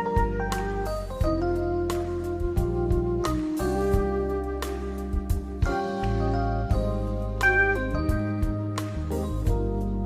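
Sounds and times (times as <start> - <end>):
gentle keyboard and organ music: 0.0 - 10.0.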